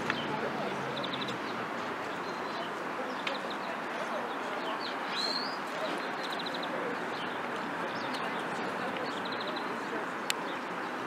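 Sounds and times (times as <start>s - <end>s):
outdoor background rush: 0.0s - 11.0s
songbirds chirping: 0.0s - 11.0s.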